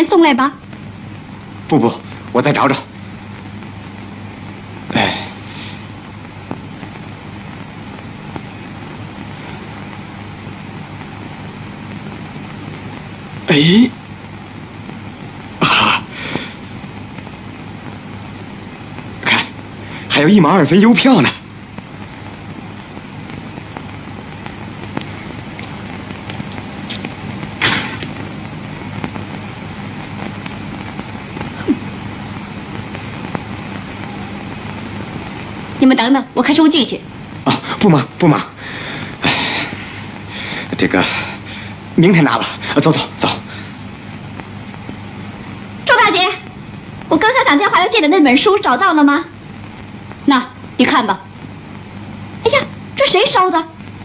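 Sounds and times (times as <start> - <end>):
film soundtrack hum and hiss: 0.0 - 54.0
loud burst of noise: 0.0 - 54.0.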